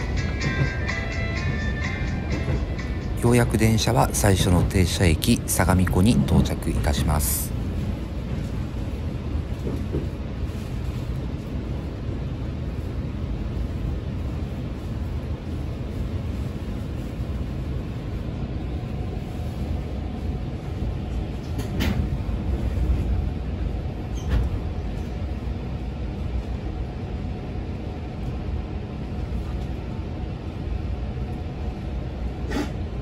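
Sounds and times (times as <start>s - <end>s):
train cabin low rumble: 0.0s - 33.0s.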